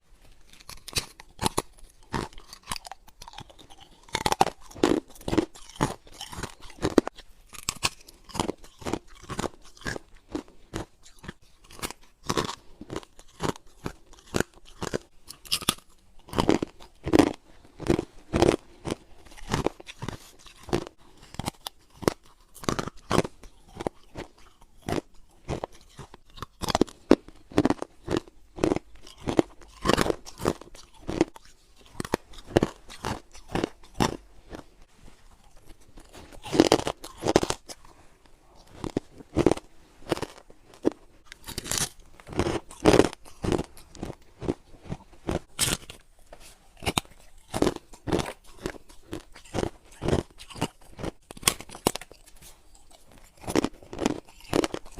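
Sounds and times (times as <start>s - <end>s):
person chewing ice crunches: 0.2s - 54.9s.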